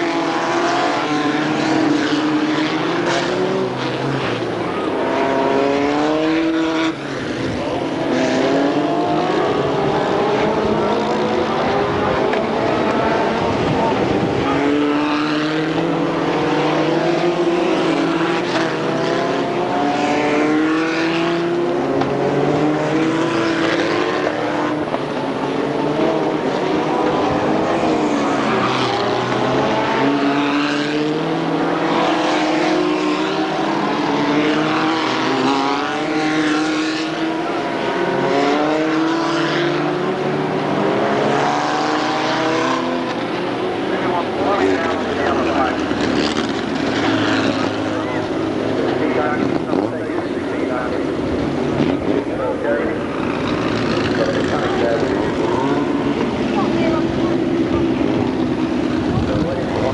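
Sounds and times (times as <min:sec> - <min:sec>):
racing car engines passing: 0:00.0 - 0:59.9.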